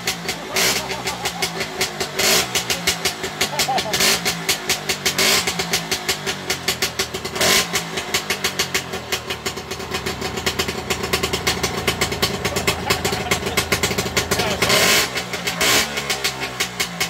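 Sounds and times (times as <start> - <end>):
two-stroke motorcycle engine revving: 0.0 - 17.0.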